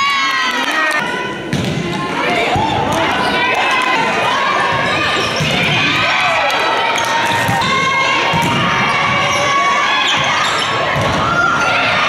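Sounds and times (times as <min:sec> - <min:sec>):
voices calling and shouting: 0:00.0 - 0:12.0.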